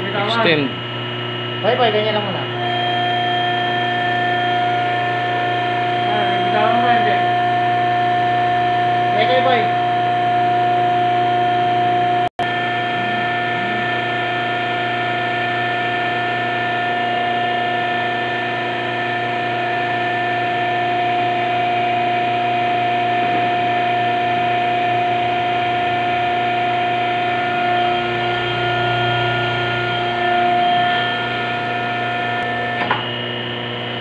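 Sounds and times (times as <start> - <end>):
hydraulic pump motor humming: 0.0 - 34.0.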